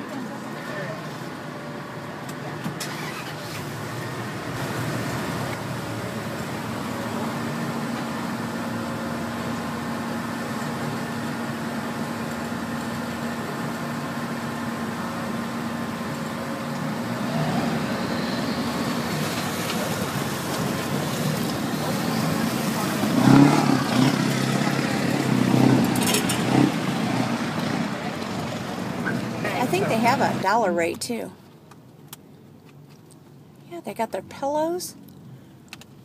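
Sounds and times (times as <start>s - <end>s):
vehicle engine drone: 0.0s - 33.6s.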